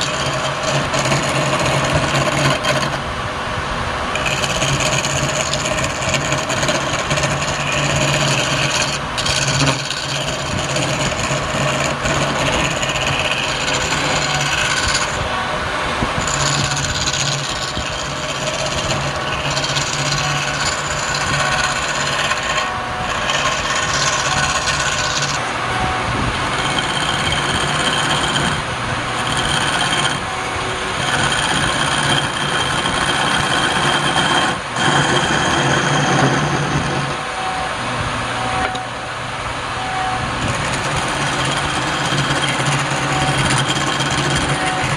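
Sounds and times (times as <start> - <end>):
tool scraping spinning wood: 0.0 - 3.1, 4.0 - 44.9
wood lathe motor hum: 0.0 - 3.1, 3.8 - 44.9.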